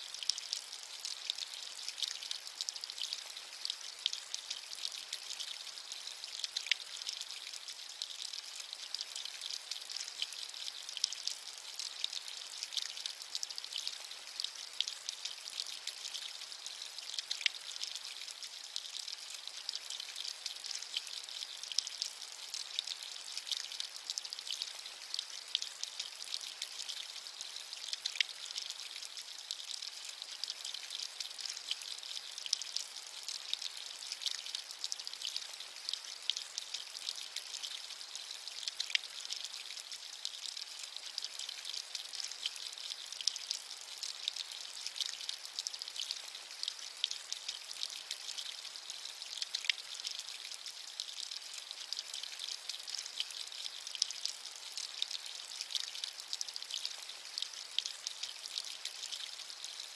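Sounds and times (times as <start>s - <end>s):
light rain patter: 0.0s - 59.9s.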